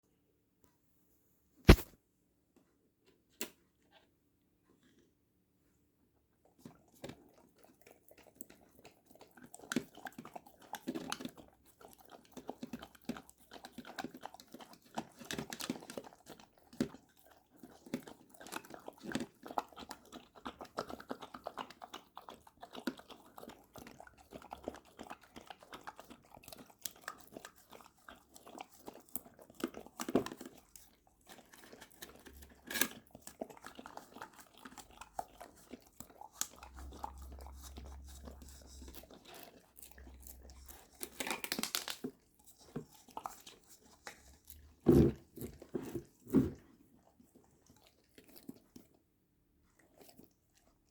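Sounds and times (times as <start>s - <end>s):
dog eating with wet mouth smacks: 6.5s - 50.9s.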